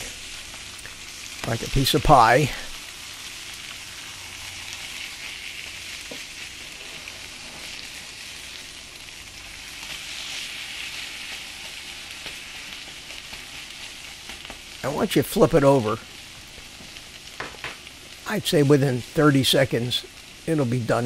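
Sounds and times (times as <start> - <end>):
omelette sizzling in a frying pan: 0.0 - 21.0.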